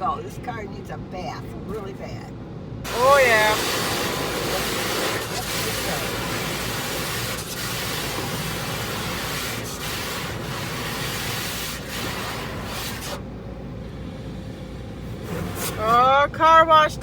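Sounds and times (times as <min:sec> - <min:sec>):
car wash water spray hissing: 0:02.9 - 0:17.0.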